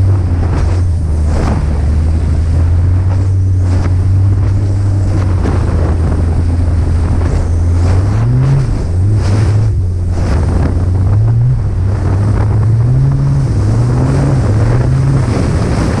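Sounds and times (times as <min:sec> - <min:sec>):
snowmobile engine revving: 0:00.0 - 0:16.0
wind buffeting the microphone: 0:00.0 - 0:16.0.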